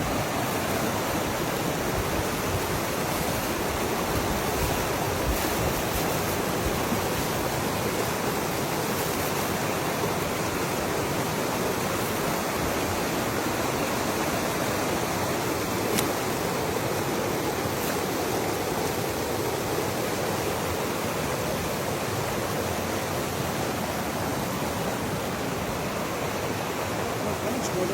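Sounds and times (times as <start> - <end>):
mountain stream rushing: 0.0 - 27.9.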